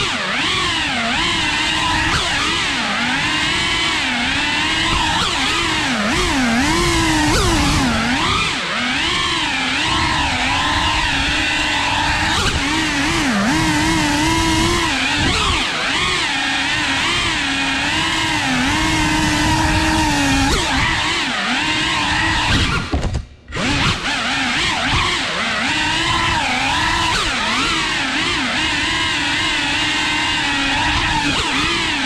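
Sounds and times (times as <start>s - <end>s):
drone propellers whining: 0.0s - 32.0s.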